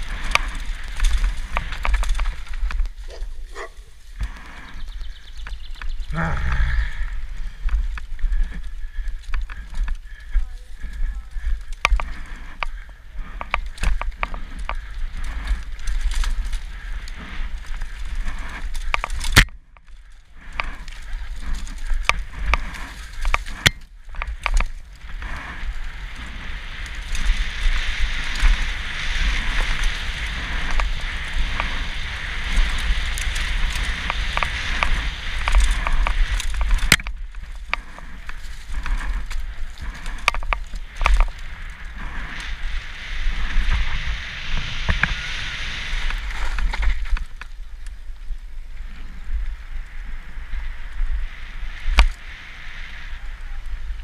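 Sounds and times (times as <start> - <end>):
mountain bike clattering over bumps: 0.0 - 49.6
tyre noise on dirt: 0.0 - 54.0
wind rumble on microphone: 0.0 - 54.0.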